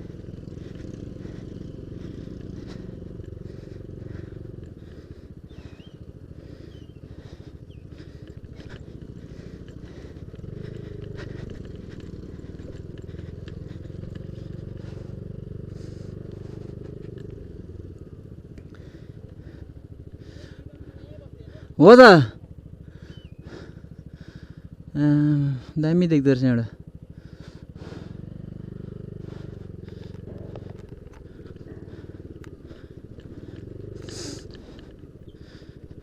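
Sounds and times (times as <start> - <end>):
scooter engine running: 0.0 - 36.0.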